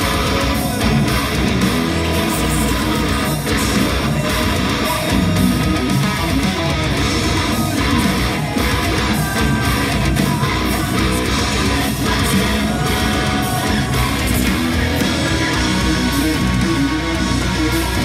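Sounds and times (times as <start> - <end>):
heavy metal electric guitar riffing: 0.0 - 18.0.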